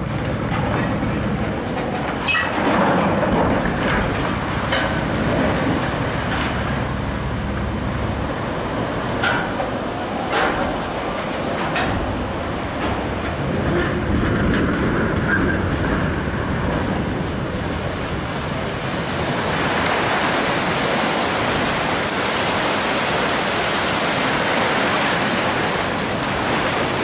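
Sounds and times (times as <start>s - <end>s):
wave splashing over pilings: 0.0s - 27.0s.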